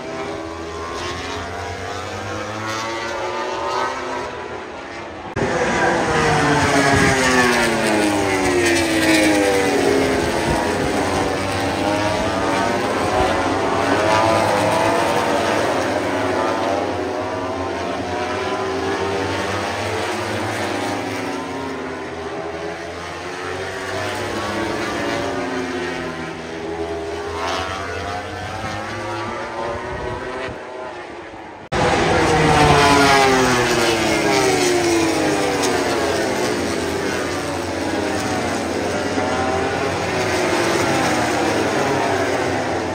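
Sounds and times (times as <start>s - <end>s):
racing motorcycles passing at high revs: 0.0s - 42.9s.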